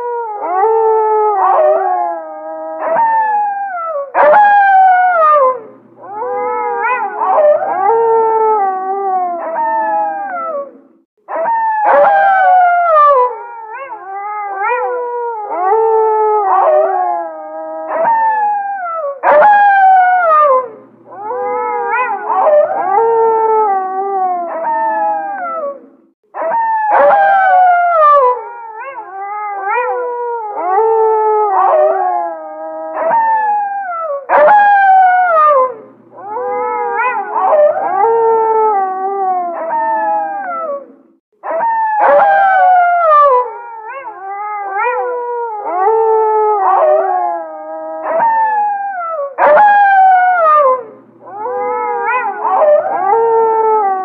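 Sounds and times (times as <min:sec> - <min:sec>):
wolves howling: 0:00.0 - 0:54.0.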